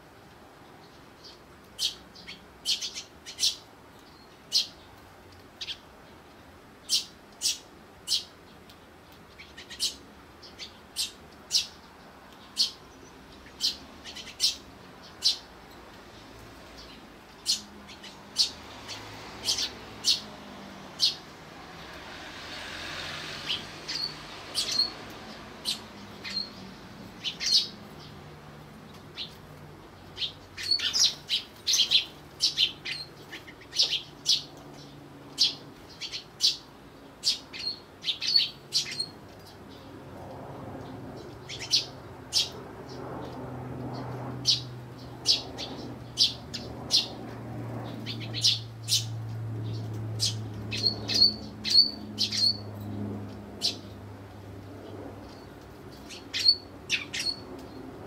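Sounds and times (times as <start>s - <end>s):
sparrows chirping: 0.5s - 58.0s.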